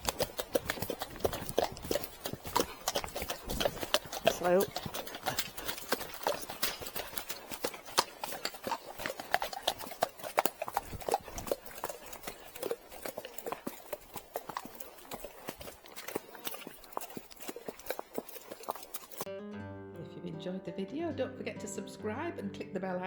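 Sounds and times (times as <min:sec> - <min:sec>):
horse hooves clip-clopping: 0:00.0 - 0:19.3.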